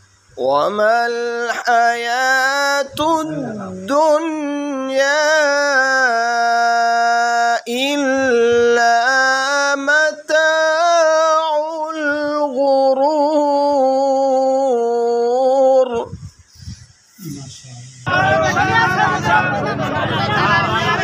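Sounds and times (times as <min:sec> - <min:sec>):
man reciting melodically: 0:00.4 - 0:16.3, 0:17.3 - 0:21.0.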